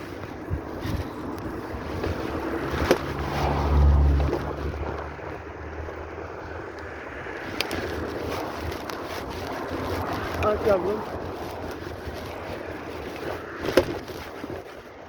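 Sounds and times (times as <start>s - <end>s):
vehicle road and wind rumble: 0.0s - 15.0s
wind buffeting microphone: 0.0s - 15.0s.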